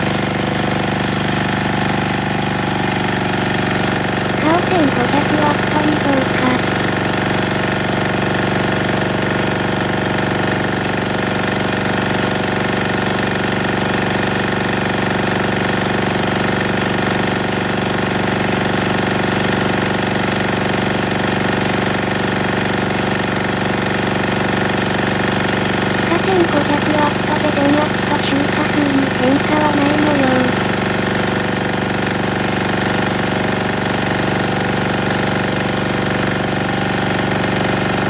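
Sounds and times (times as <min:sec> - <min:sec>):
diesel generator running: 0:00.0 - 0:38.0.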